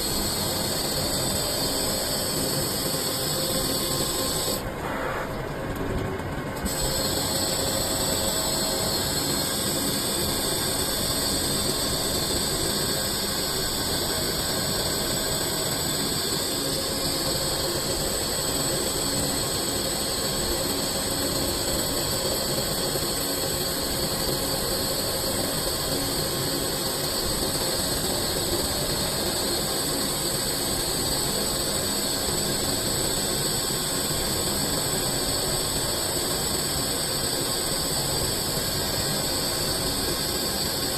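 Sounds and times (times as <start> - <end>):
lathe machining noise: 0.0 - 5.6, 6.5 - 40.9
high-pitched whine: 0.0 - 40.9.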